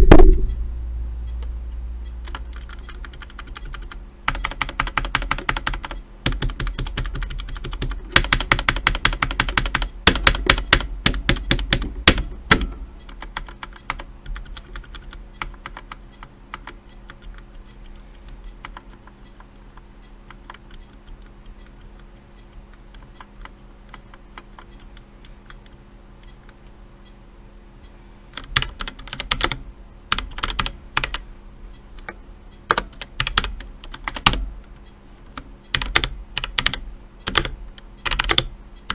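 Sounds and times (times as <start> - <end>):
mechanical keyboard typing: 2.2 - 19.6, 20.3 - 22.1, 22.7 - 26.6, 28.4 - 31.2, 32.0 - 34.5, 35.7 - 38.9.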